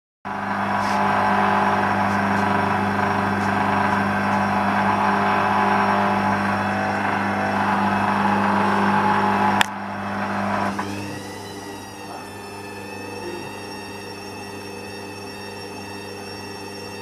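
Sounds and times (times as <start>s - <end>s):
motor whine: 0.3s - 17.0s
washing machine spinning: 0.3s - 17.0s.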